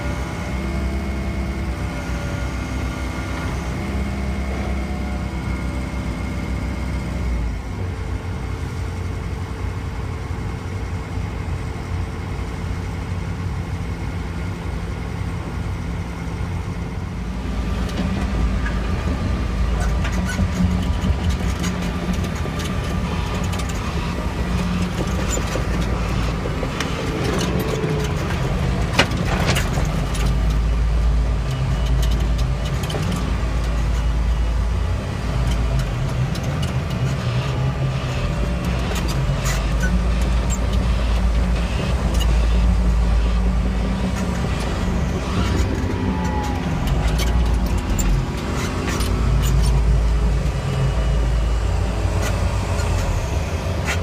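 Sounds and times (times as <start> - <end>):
diesel machinery rumble: 0.0 - 54.0.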